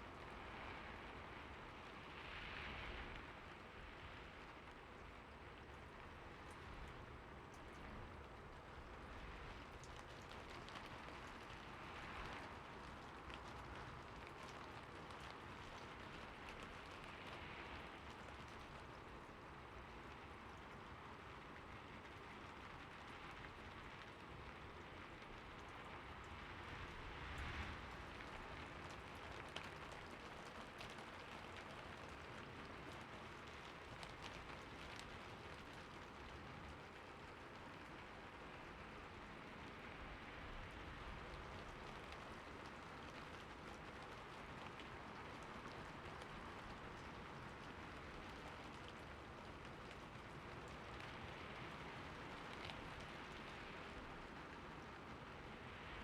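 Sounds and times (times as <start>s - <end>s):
heavy rain falling: 5.3s - 56.0s.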